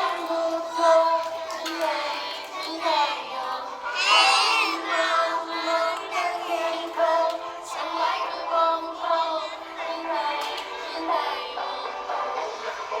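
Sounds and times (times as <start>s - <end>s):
children singing: 0.0s - 13.0s
music: 0.0s - 13.0s.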